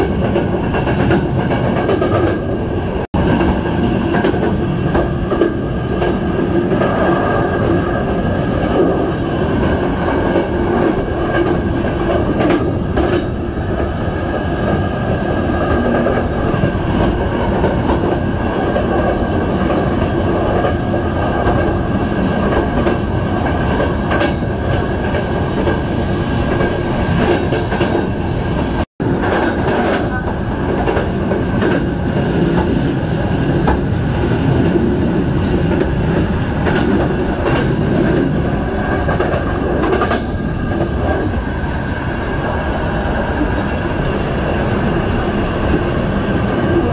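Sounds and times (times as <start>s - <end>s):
rail joint clicks: 0.0s - 46.9s
train wheels rumbling on rails: 0.0s - 46.9s.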